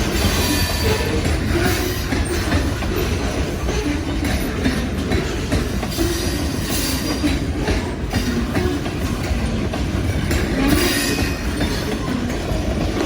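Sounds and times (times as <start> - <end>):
train rumbling: 0.0 - 13.0
train wheels clattering over rail joints: 0.0 - 13.0.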